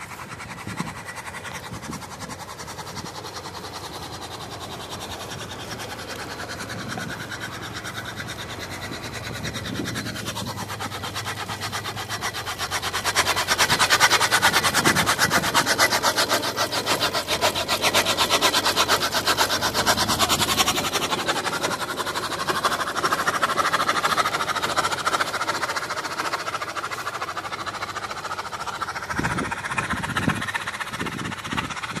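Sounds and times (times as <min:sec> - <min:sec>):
tractor engine mechanical clatter: 0:00.0 - 0:32.0.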